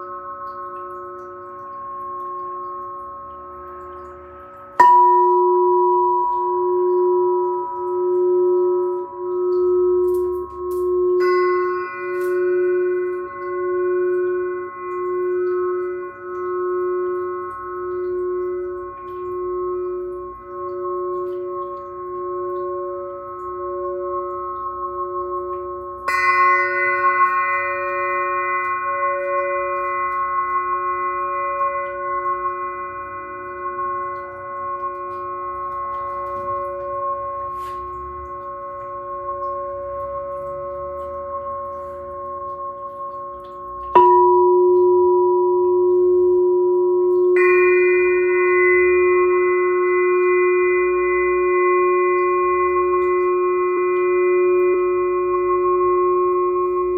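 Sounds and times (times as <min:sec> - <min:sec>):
glass singing bowl ringing: 0:00.0 - 0:56.9.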